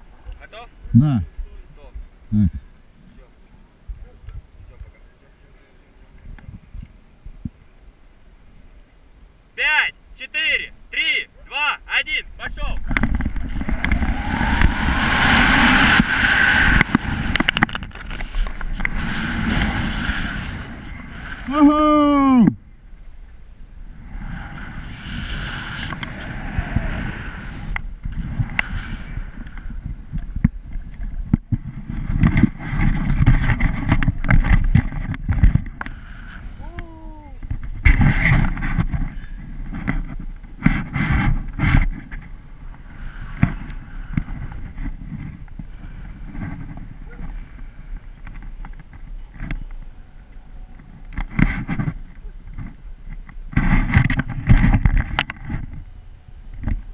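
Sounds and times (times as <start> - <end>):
wind rumbling on microphone: 0.0 - 11.0, 12.0 - 56.9.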